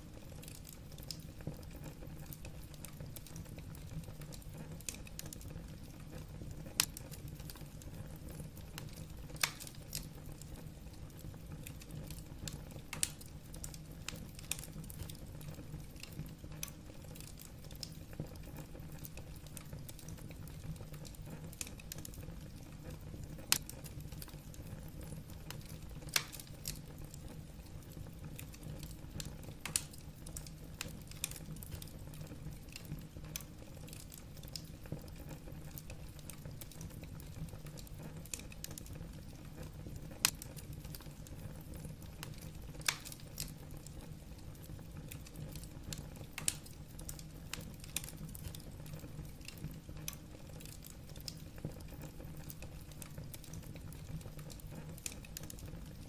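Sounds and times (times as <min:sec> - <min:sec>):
burning logs crackling: 0:00.0 - 0:56.0
low rumble of flames: 0:00.0 - 0:56.0.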